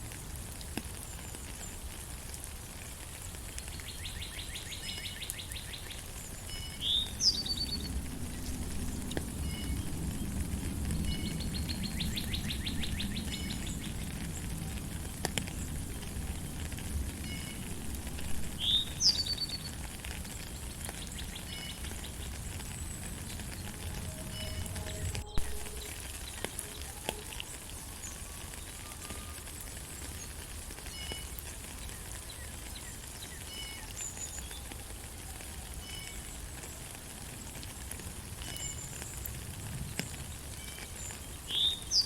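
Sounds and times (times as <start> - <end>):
rain: 0.0 - 42.0.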